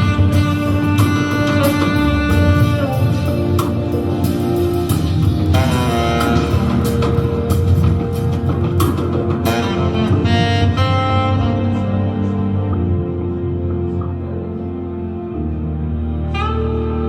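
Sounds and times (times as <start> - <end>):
bass line: 0.0 - 17.0
instrumental music over loudspeakers: 0.0 - 17.0.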